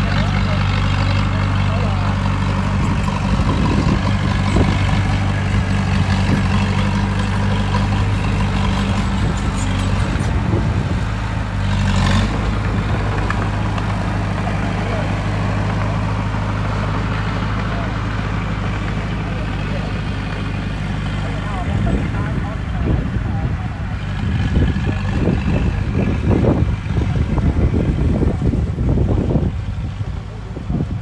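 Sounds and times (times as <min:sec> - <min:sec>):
heavy diesel engine under load: 0:00.0 - 0:31.0.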